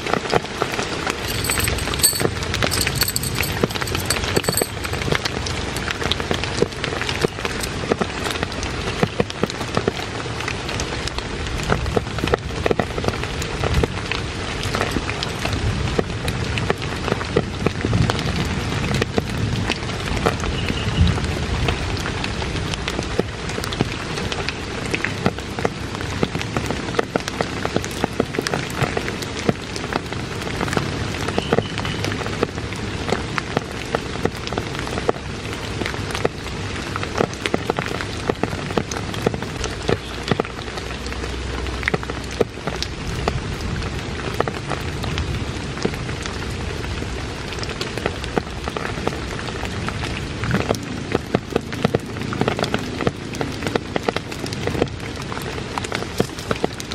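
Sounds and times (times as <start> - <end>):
raindrops on plastic groundsheet: 6.1 - 56.9.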